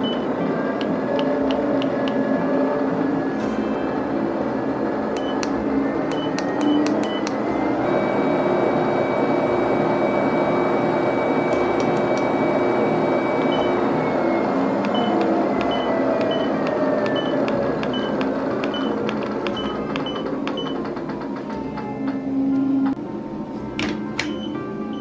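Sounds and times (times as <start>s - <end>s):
treadmill motor humming and whining: 0.0s - 25.0s.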